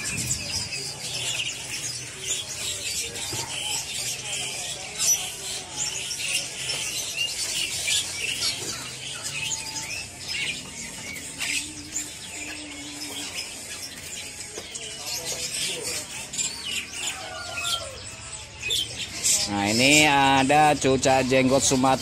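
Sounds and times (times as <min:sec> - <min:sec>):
songbirds chirping and twittering: 0:00.0 - 0:22.0.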